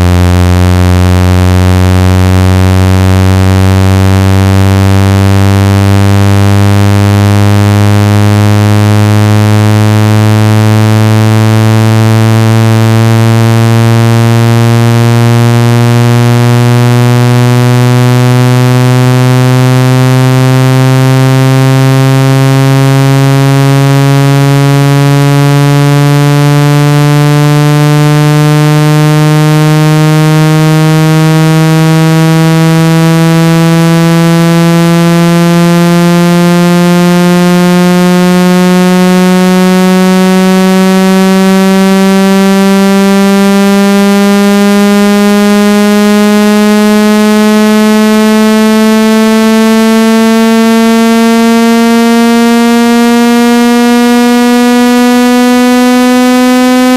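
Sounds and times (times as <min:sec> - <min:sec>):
buzzy tone gliding upward: 0:00.0 - 0:52.2, 0:53.0 - 0:56.9.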